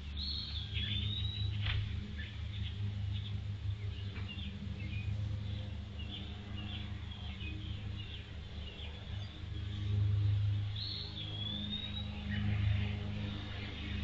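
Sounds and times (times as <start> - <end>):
small birds chirping and trilling: 0.0 - 14.0
steady low hum: 0.0 - 14.0.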